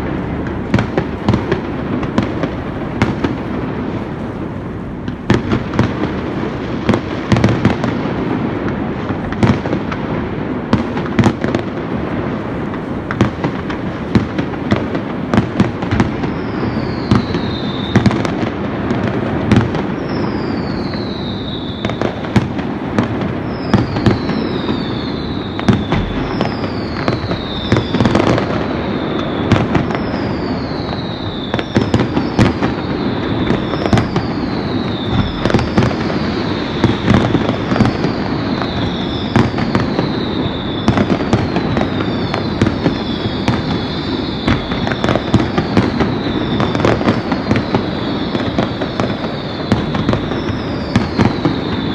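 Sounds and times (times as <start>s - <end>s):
falling firework whistles: 0.0s - 51.9s
fireworks bangs: 0.0s - 51.9s.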